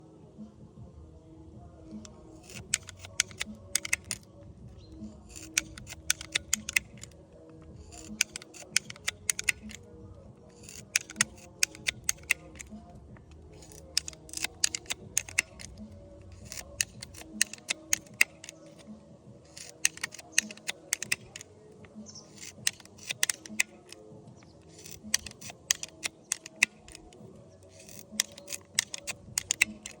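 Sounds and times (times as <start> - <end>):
soft background music: 0.0 - 30.0
pruner ratchet clicking: 1.9 - 30.0.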